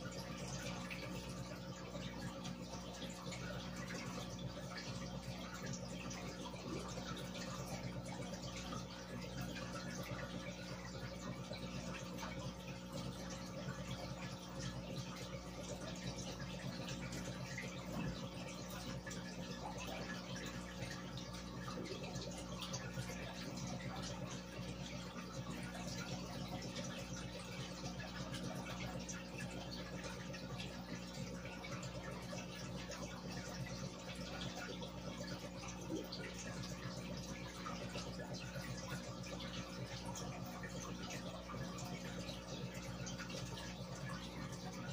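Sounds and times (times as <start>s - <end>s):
aquarium air bubbling: 0.0s - 44.9s.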